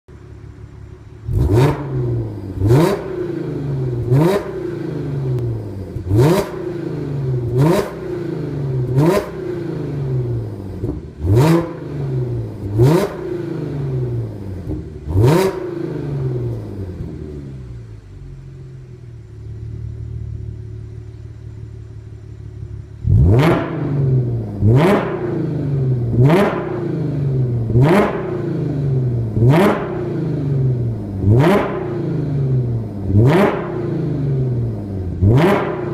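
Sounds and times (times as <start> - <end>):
car engine idling: 0.1 - 35.9
car engine revving: 0.1 - 35.9.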